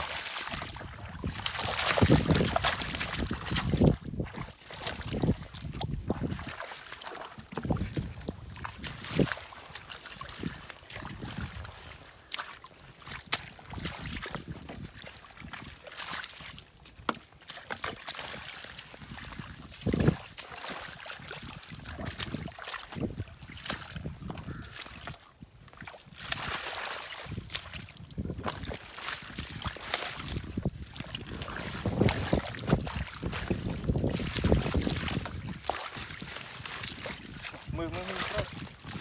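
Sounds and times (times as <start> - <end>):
splashing in muddy water: 0.0 - 39.0.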